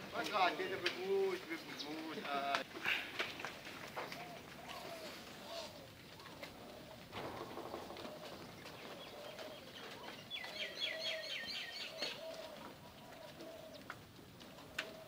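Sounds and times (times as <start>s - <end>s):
dove-like cooing: 2.7s - 15.0s.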